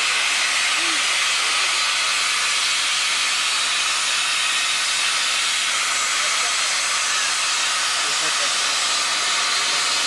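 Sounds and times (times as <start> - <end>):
steam locomotive hissing: 0.0 - 10.0.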